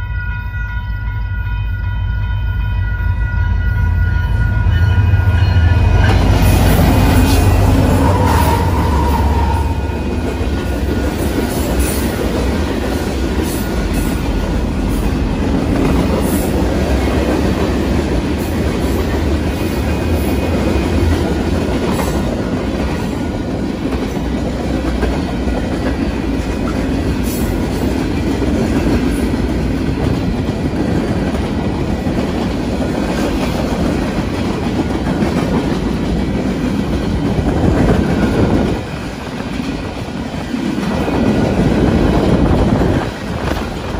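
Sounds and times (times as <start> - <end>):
freight train rolling past: 0.0 - 43.9.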